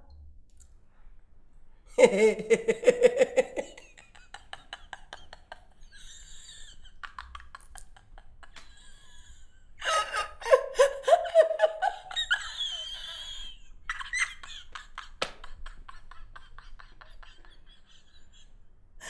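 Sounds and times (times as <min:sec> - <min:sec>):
woman laughing hard: 0:02.0 - 0:18.6.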